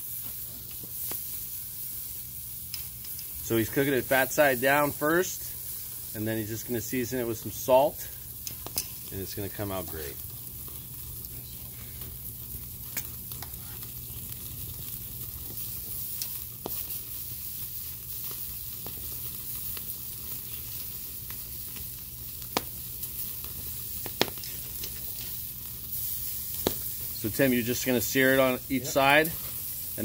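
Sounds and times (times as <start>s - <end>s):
steaks sizzling on a grill: 0.0s - 30.0s.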